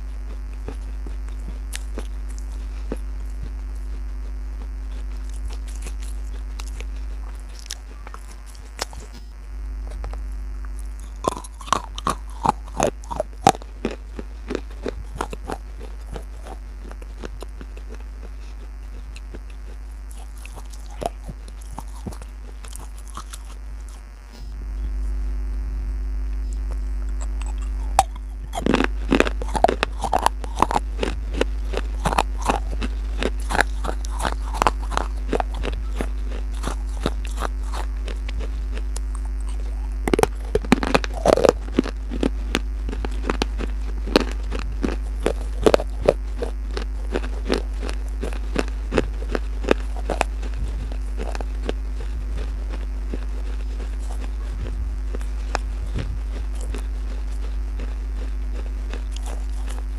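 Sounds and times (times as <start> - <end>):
crunching and chewing clay pieces: 0.0 - 25.0, 26.4 - 59.9
steady low hum: 0.0 - 59.9.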